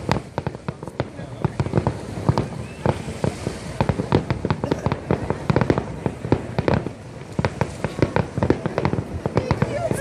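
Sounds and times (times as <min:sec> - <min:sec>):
continuous rumbling: 0:00.0 - 0:10.0
fireworks bangs and cracks: 0:00.0 - 0:10.0.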